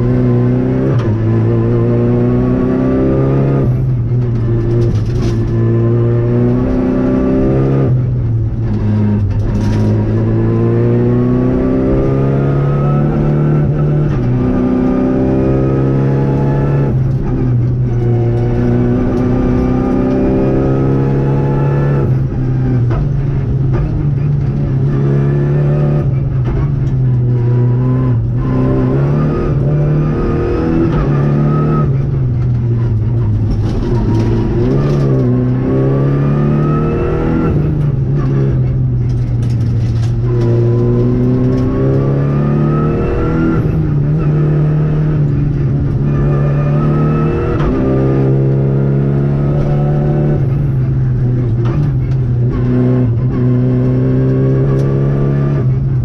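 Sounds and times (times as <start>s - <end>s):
car engine revving hard: 0.0s - 8.0s, 8.6s - 23.0s, 27.2s - 32.2s, 33.0s - 56.0s.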